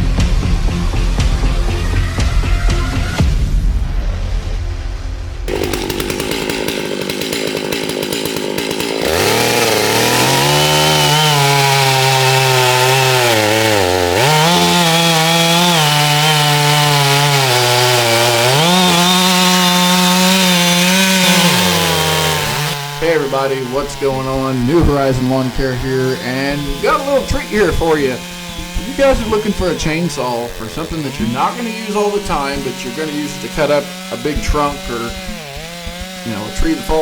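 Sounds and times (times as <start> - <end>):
chainsaw running: 5.5 - 37.0.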